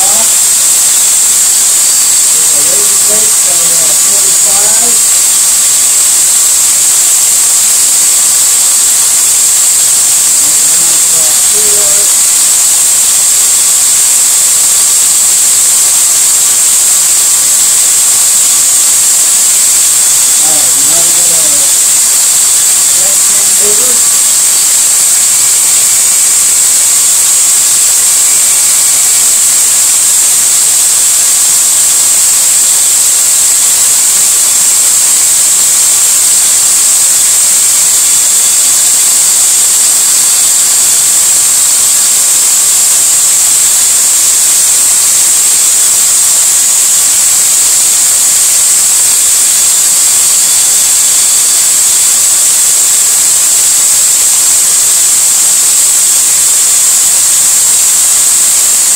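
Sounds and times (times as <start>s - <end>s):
drill motor whine: 0.0s - 55.1s
sandpaper hissing on spinning metal: 0.0s - 58.9s.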